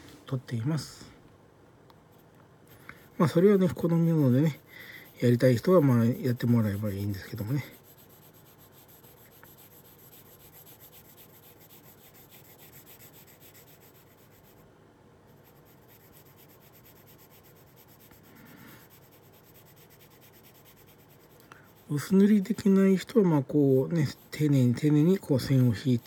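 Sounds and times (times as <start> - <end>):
pencil scratching on paper: 2.9 - 14.6, 15.3 - 26.0.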